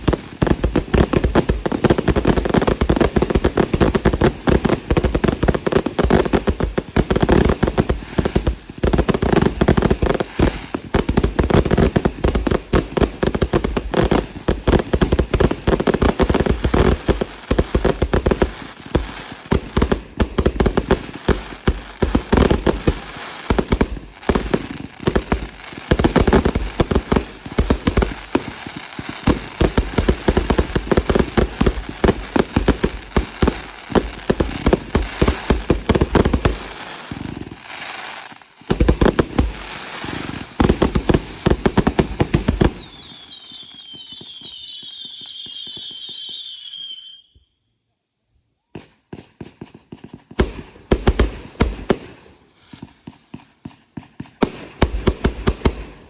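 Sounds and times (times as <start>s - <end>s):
fireworks bangs and crackles: 0.0s - 47.2s, 48.6s - 56.0s.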